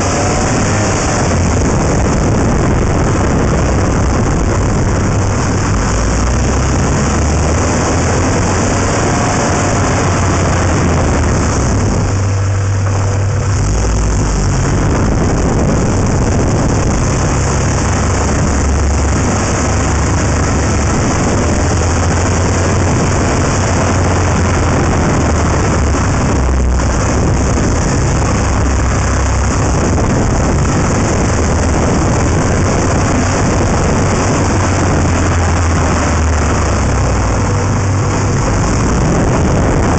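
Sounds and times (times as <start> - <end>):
car engine hum: 0.0 - 39.9
road and air noise: 0.0 - 39.9.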